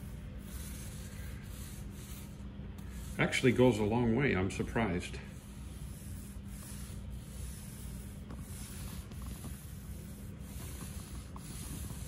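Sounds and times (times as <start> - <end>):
paint roller rubbing hiss: 0.0 - 3.9, 4.9 - 12.0.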